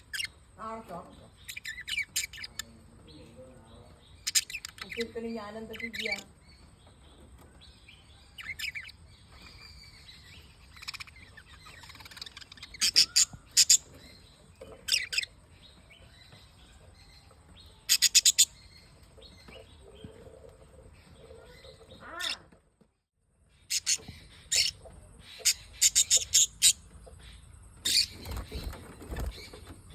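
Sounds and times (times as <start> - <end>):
lovebirds chirping: 0.0 - 22.6, 23.4 - 29.9.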